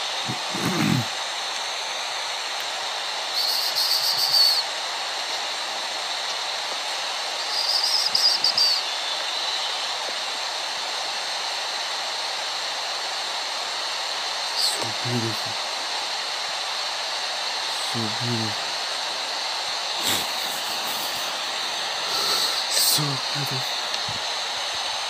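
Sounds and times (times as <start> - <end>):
high rapidly pulsing buzzes: 0.0 - 25.0
steady outdoor hiss: 0.0 - 25.0.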